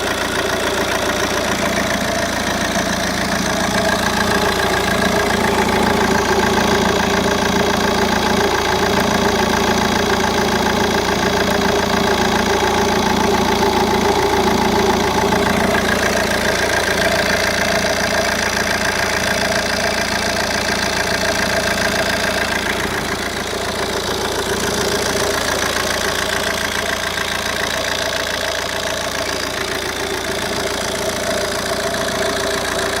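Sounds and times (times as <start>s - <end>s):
diesel engine idling: 0.0s - 33.0s
rattle: 0.0s - 33.0s.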